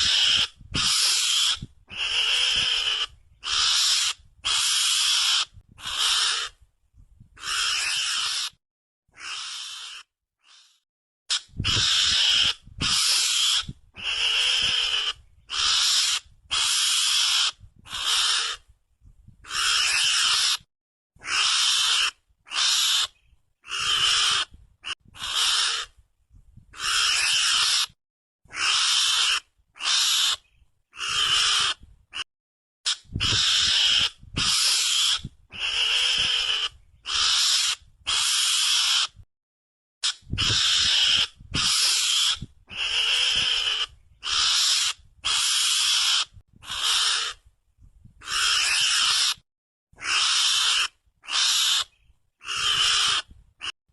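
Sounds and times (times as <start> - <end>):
raspy animal calls: 0.0 - 6.6, 7.4 - 18.6, 19.4 - 26.0, 26.8 - 30.4, 31.0 - 32.2, 32.9 - 39.2, 40.0 - 47.4, 48.2 - 49.4, 50.0 - 53.8.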